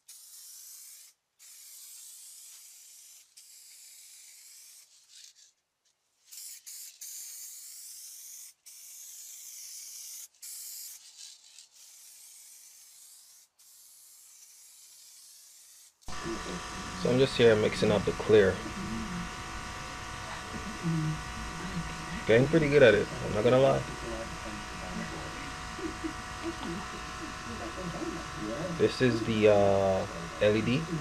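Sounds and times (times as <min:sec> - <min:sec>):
spray paint can hissing: 0:00.0 - 0:19.2, 0:19.8 - 0:31.0.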